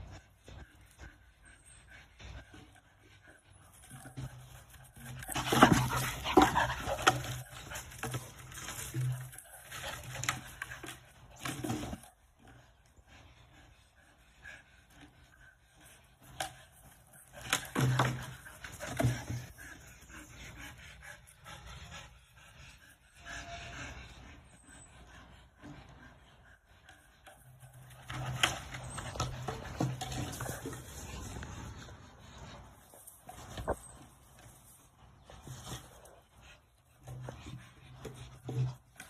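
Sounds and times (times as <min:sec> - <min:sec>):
dog panting: 0:00.0 - 0:39.0.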